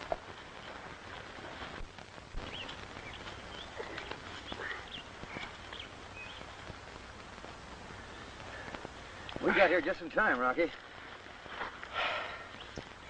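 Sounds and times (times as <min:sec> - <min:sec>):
birds chirping: 0:00.0 - 0:13.0
steady hiss: 0:00.0 - 0:13.0.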